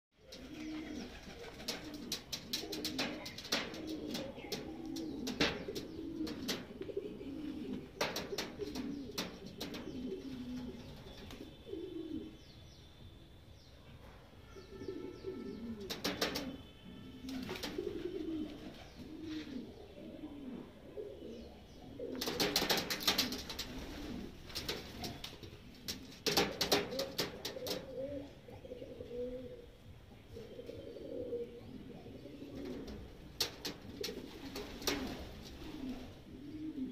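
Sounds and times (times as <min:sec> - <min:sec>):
pigeons cooing: 0:00.2 - 0:12.4, 0:14.6 - 0:36.9.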